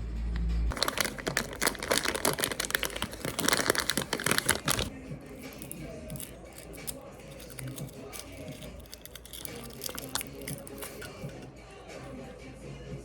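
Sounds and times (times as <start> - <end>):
packaging wrap crinkling: 0.7 - 11.5.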